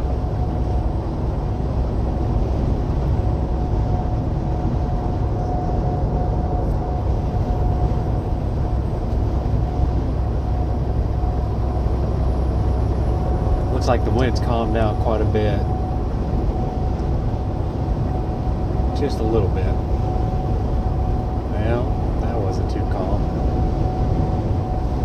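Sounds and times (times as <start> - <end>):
faint steady whine: 0.0 - 25.0
truck cab engine and road rumble: 0.0 - 25.0.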